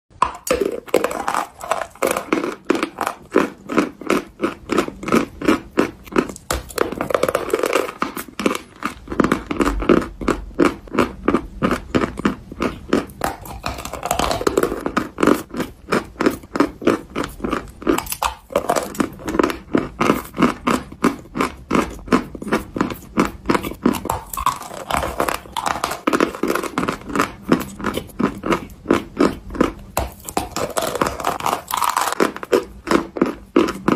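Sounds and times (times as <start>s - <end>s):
chalk crunching and chewing: 0.2s - 33.9s.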